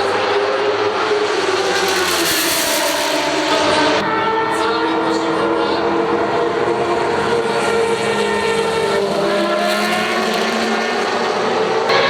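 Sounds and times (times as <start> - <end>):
racing car engines at high revs: 0.0 - 12.0.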